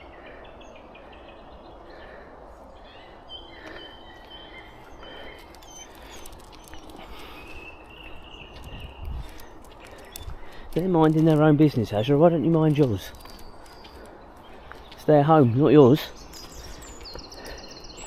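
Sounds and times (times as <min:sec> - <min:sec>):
birds chirping and calling: 0:00.0 - 0:18.0
outdoor background noise: 0:00.0 - 0:18.0.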